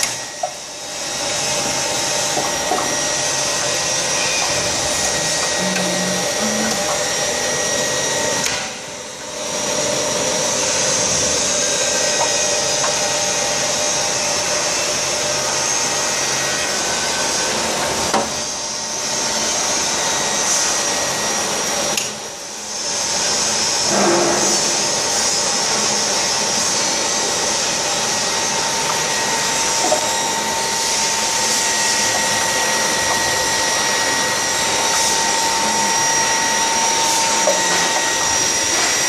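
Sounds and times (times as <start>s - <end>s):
pump motor whirring: 0.0s - 39.0s.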